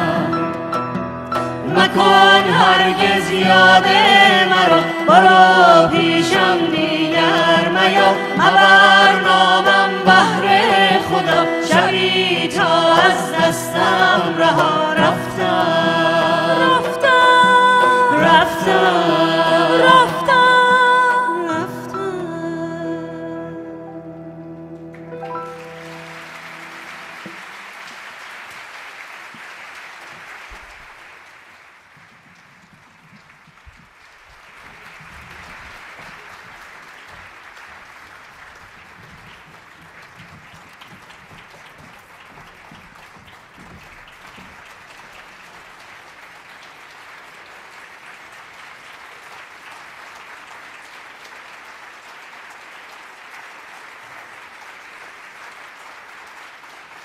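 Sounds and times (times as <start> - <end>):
audience applauding: 0.0 - 21.7, 24.7 - 57.0.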